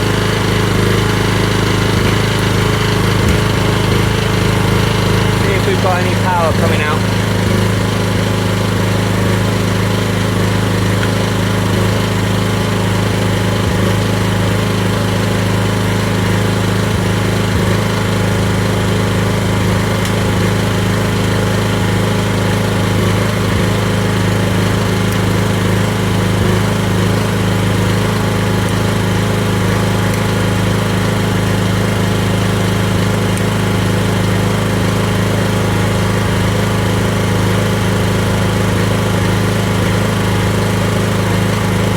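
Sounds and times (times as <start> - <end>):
generator engine humming: 0.0 - 41.9.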